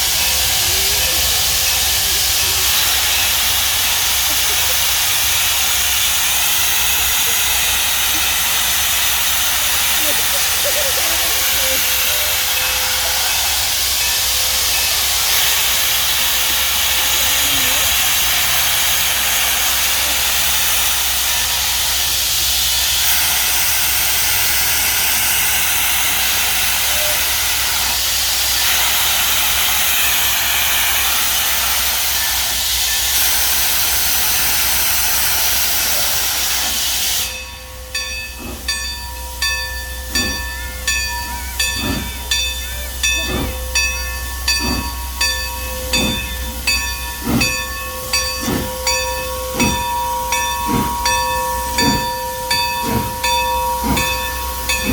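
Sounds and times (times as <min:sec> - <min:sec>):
steam hissing from locomotive: 0:00.0 - 0:54.9
steam locomotive exhaust chuffs: 0:00.0 - 0:54.9.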